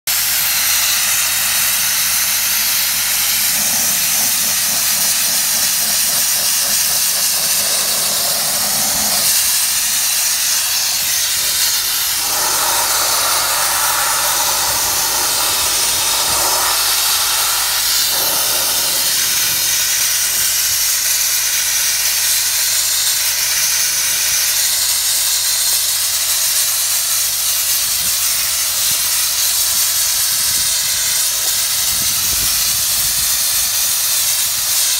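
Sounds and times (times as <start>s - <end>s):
sandblasting nozzle hissing: 0.1s - 34.9s.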